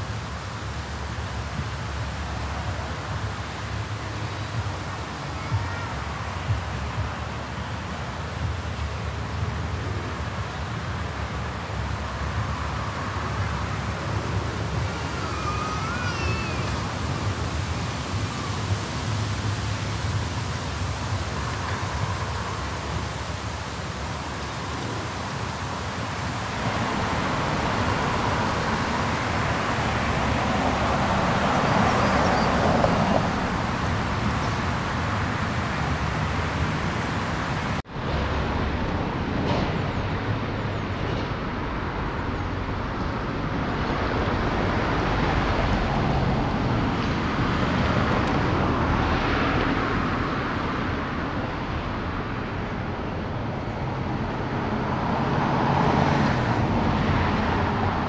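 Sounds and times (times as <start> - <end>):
cars passing along street: 0.0 - 58.0.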